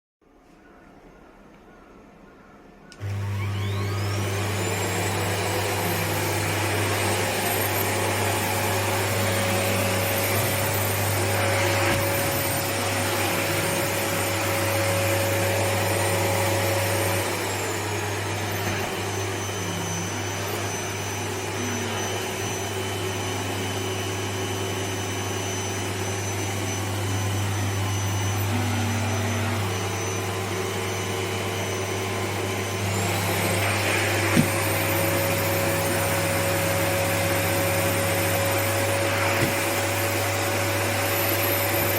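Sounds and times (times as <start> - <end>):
vacuum cleaner motor whine: 2.9 - 41.9.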